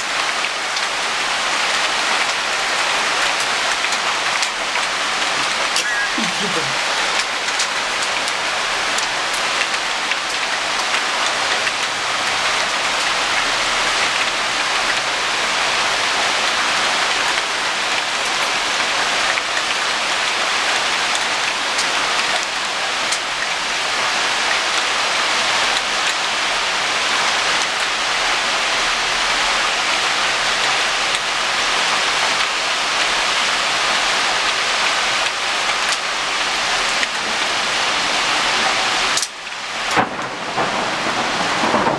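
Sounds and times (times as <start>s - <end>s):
heavy rain pouring: 0.0s - 41.9s
raindrops ticking close by: 0.1s - 26.6s, 27.4s - 41.9s.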